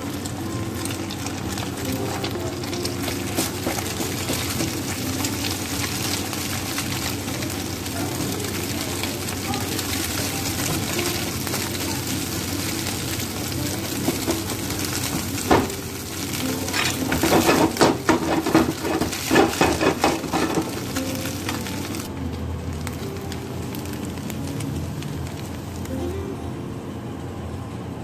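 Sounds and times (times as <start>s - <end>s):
egg sizzling in a frying pan: 0.0s - 26.1s.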